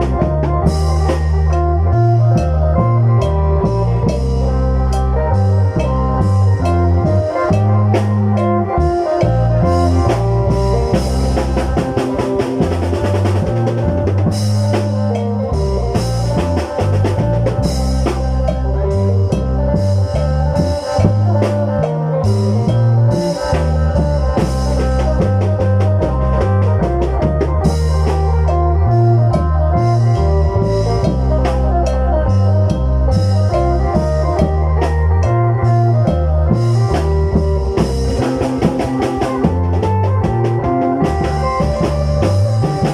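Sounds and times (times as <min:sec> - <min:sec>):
bass line: 0:00.0 - 0:42.9
steady drumming: 0:00.0 - 0:42.9.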